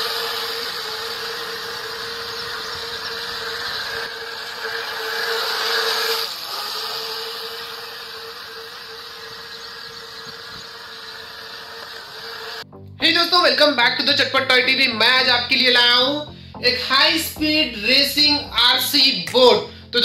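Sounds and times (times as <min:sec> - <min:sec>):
rc boat motor whine: 0:00.0 - 0:16.2.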